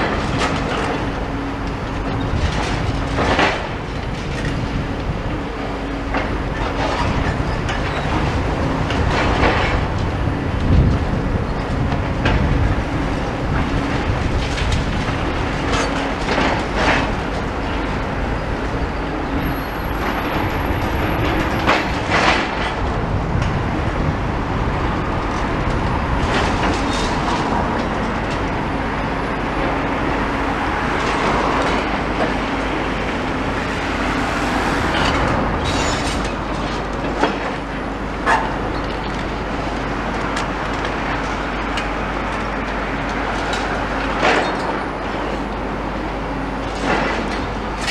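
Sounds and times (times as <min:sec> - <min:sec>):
excavator running: 0:00.0 - 0:47.9.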